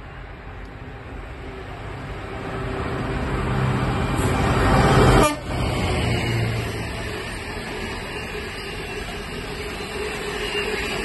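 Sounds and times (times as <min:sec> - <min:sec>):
freight train rumbling by: 0:00.0 - 0:11.0.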